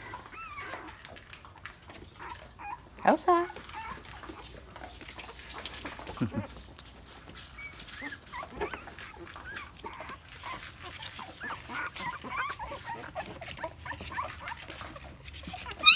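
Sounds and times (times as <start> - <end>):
puppies whimpering and squeaking: 0.0 - 15.9.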